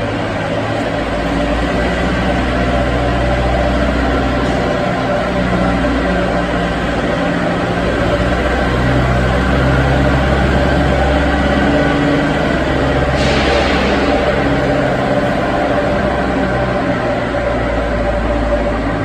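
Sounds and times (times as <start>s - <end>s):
machinery low drone: 0.0s - 19.0s.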